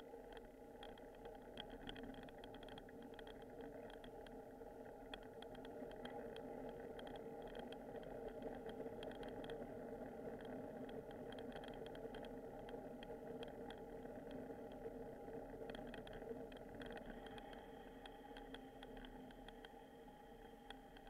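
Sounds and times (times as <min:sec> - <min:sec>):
bike ticks and rattles: 0:00.0 - 0:21.0.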